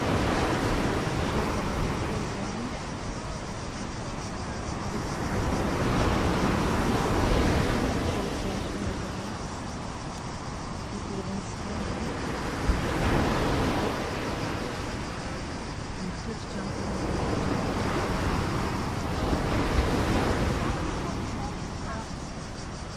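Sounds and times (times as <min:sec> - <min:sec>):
sea waves washing in: 0:00.0 - 0:22.9
wind buffeting microphone: 0:00.0 - 0:22.9.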